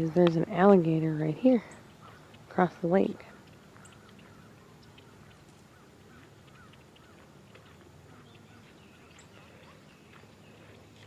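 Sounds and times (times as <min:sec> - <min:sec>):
distant birds chirping: 0:00.0 - 0:11.0
low outdoor background noise: 0:00.0 - 0:11.0.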